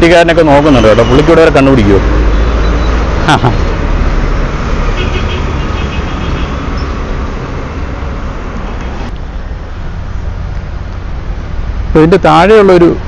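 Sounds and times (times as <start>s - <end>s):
vehicle passing close: 1.3s - 11.9s.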